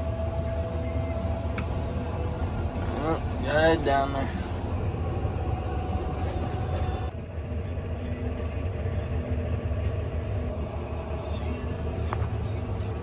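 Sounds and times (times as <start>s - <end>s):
high whine: 0.0s - 13.0s
tractor engine droning: 0.0s - 13.0s.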